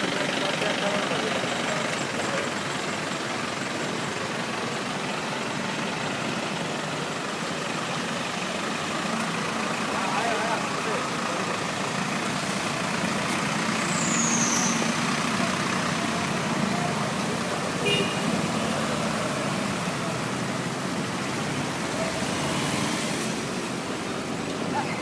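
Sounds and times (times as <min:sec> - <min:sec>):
vehicle engines running: 0:00.0 - 0:25.0.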